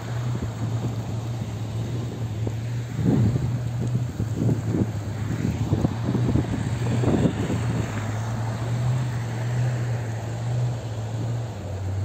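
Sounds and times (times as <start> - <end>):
traffic hiss on slushy road: 0.0 - 12.0
truck engine droning: 0.0 - 12.0.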